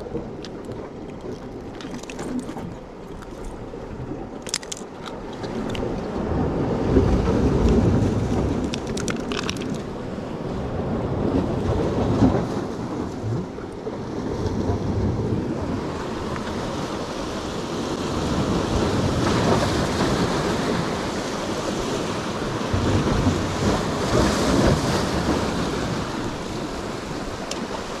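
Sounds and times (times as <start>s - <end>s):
surf among rocks: 0.0s - 28.0s.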